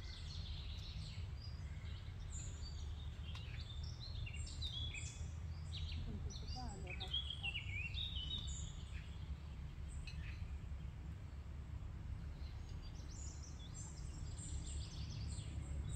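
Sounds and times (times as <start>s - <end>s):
low steady rumble: 0.0s - 15.9s
small birds chirping: 0.0s - 15.9s.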